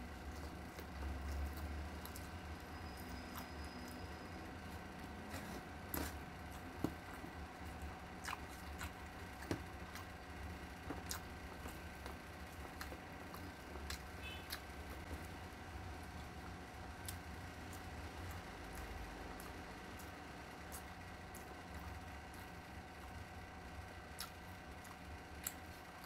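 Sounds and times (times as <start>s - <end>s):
chewing with wet mouth sounds: 0.0s - 26.0s.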